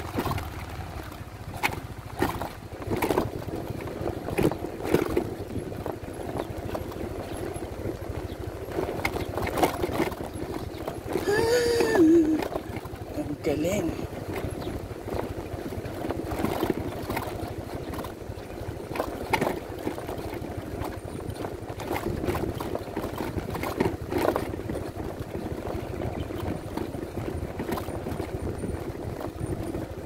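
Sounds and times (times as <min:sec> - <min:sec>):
knocks and rattles from bumps: 0:00.0 - 0:30.0
scooter engine running: 0:00.0 - 0:30.0.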